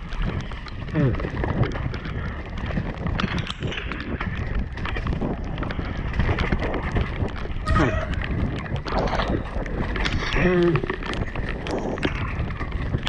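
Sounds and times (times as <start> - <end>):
mountain bike rattling over rocks: 0.0 - 13.0
wind rumble on microphone: 0.0 - 13.0.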